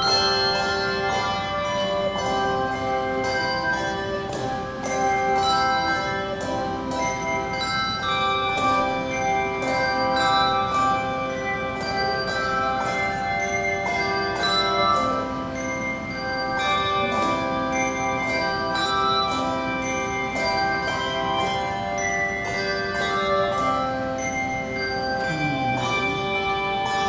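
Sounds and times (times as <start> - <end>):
handbell choir playing: 0.0 - 27.0.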